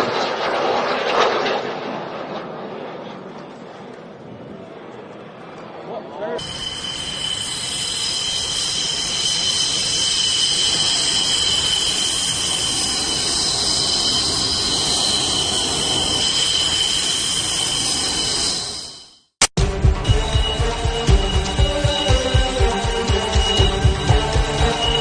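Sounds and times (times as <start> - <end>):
jet engine roaring with high whine: 0.0 - 19.3, 20.2 - 25.0.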